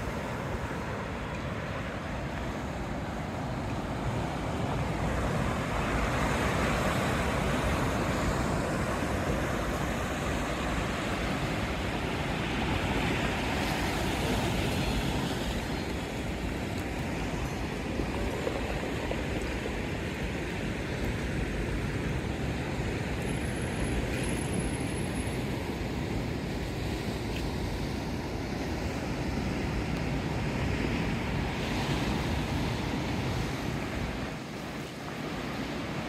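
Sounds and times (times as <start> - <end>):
ocean surf on rocky shore: 0.0 - 36.0.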